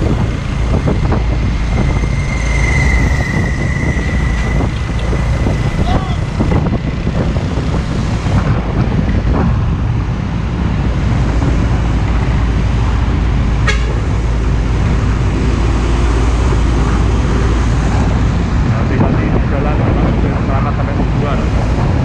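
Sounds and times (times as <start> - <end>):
diesel truck engine rumbling: 0.0 - 22.0
road traffic noise: 0.0 - 22.0.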